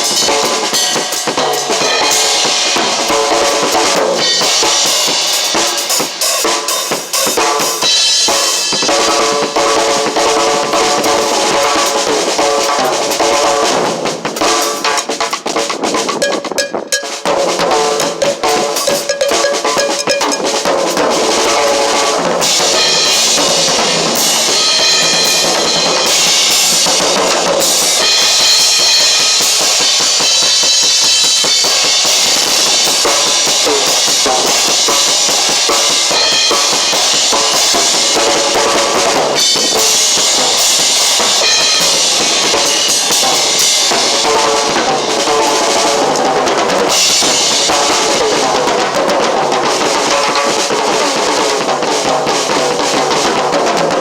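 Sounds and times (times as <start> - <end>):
drum kit playing: 0.0 - 54.0.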